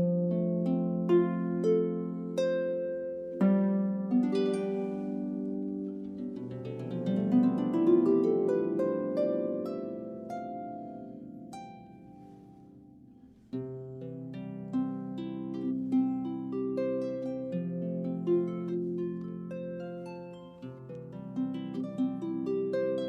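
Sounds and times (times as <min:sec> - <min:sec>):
solo harp playing: 0:00.0 - 0:23.0.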